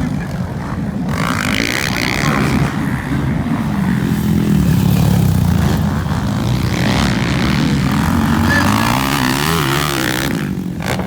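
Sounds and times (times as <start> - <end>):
motorcycle engines droning: 0.0 - 11.0.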